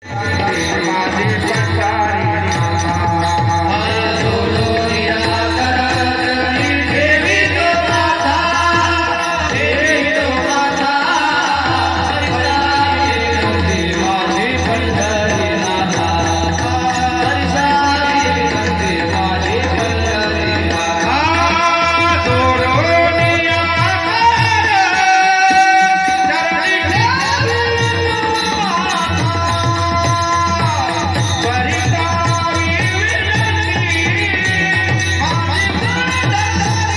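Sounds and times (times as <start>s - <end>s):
person singing devotional melody: 0.0s - 36.9s
sustained instrumental accompaniment: 0.0s - 36.9s.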